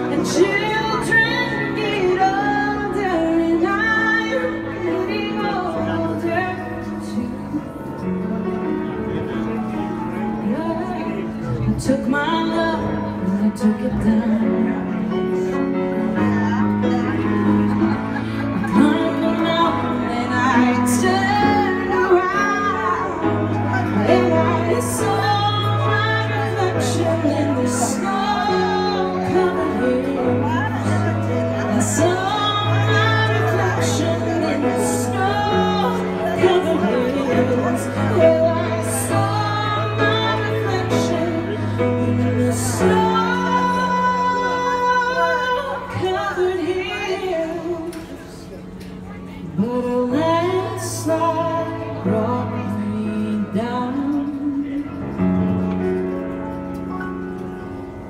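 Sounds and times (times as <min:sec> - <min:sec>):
woman singing into a microphone: 0:00.0 - 0:09.0, 0:10.1 - 0:55.7
piano chords: 0:00.0 - 0:58.0.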